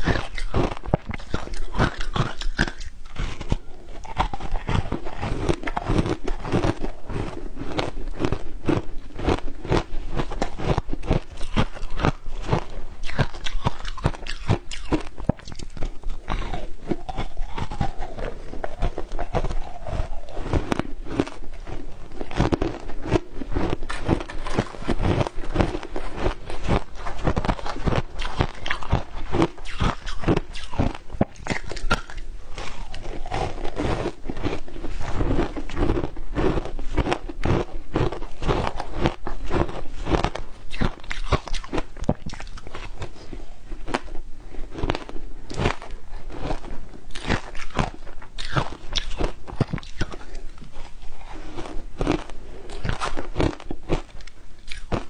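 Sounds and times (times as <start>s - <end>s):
crunching and chewing ice: 0.0s - 55.0s.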